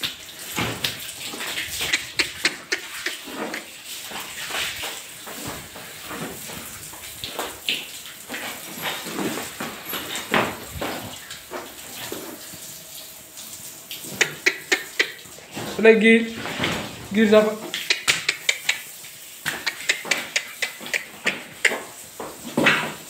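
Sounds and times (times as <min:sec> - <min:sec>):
water splashing on concrete: 0:00.0 - 0:23.0.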